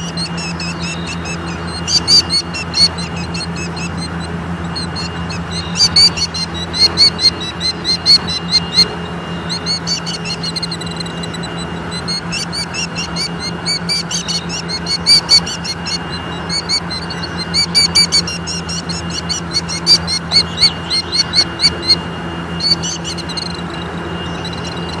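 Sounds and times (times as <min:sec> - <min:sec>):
bird alarm calls: 0:00.0 - 0:25.0
steady low hum: 0:00.0 - 0:25.0.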